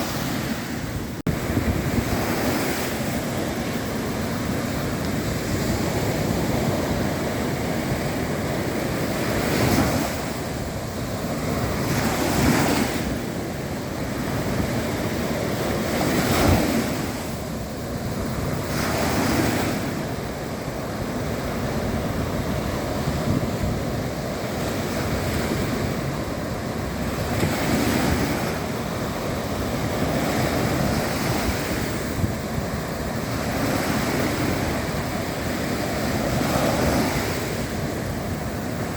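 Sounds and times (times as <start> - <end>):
sea waves breaking on shore: 0.0 - 38.9
wind on microphone: 0.0 - 38.9.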